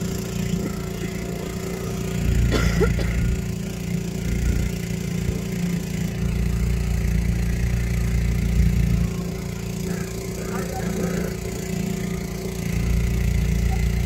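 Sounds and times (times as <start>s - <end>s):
deep uneven rumble: 0.0s - 14.0s
small motor humming: 0.0s - 14.0s.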